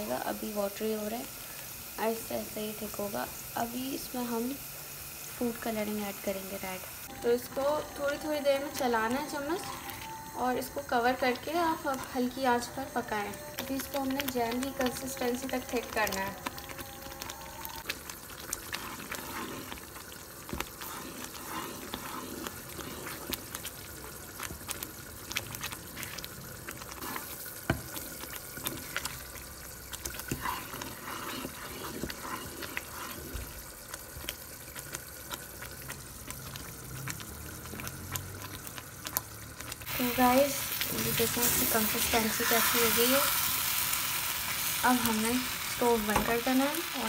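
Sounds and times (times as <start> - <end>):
jam bubbling in a pan: 0.0 - 47.0.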